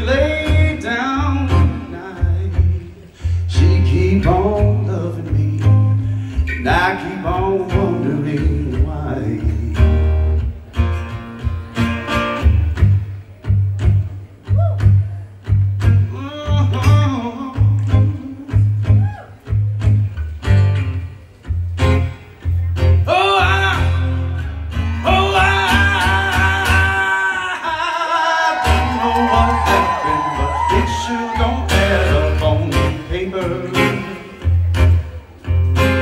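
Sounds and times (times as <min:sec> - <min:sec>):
live band playing country music: 0:00.0 - 0:36.0.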